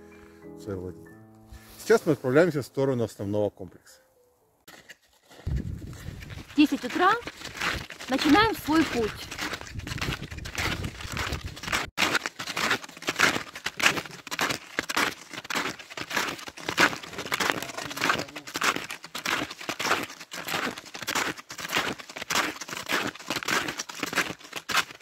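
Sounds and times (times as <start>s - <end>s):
footsteps crunching on snow: 4.7s - 25.0s.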